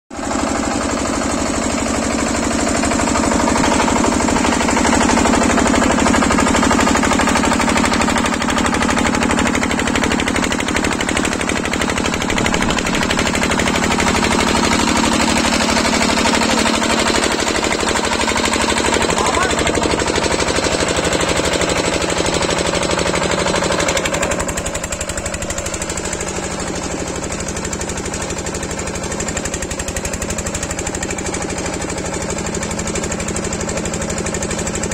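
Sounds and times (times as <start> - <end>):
diesel engine running with knocking: 0.1 - 34.9.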